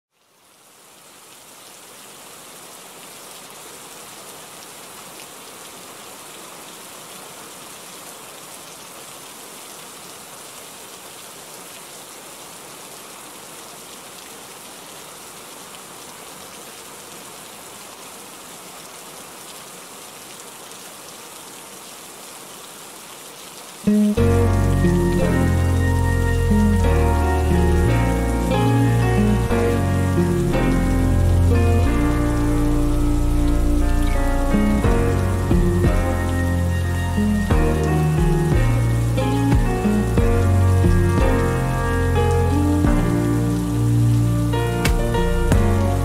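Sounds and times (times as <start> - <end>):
steady rain: 0.1 - 46.0.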